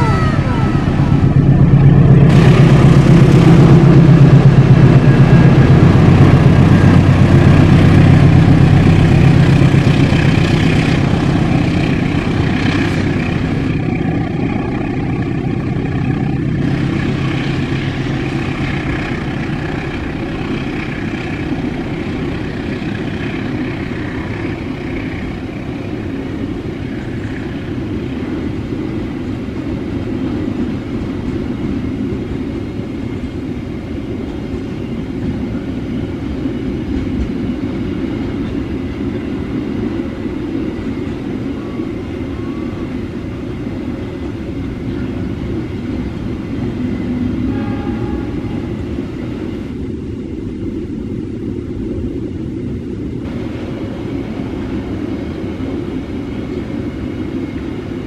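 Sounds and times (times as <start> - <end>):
diesel locomotive engine: 0.0 - 58.0
train wheels rolling on rails: 0.0 - 58.0.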